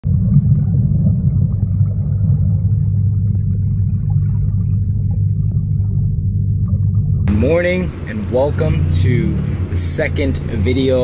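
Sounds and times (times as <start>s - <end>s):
faint hum: 0.0s - 11.0s
loud low rumble: 0.0s - 11.0s.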